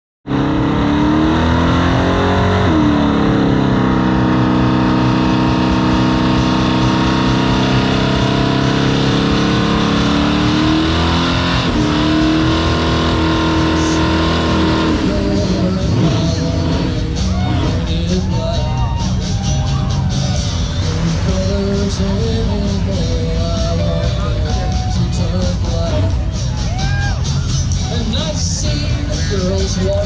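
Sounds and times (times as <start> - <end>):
truck engine at high revs: 0.2 - 30.0.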